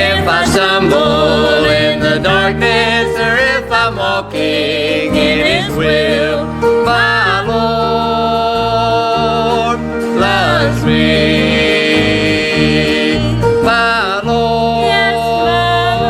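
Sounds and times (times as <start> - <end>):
gospel singing with vibrato: 0.0 - 16.0
instrumental accompaniment with bass: 0.0 - 16.0.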